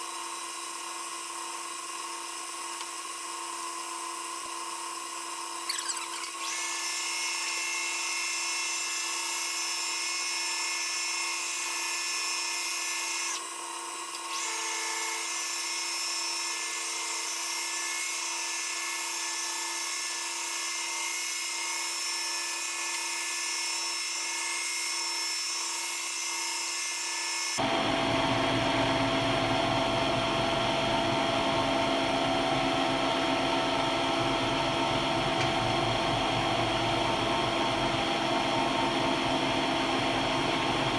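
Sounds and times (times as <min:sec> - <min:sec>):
metal lathe motor whine: 0:00.0 - 0:40.9.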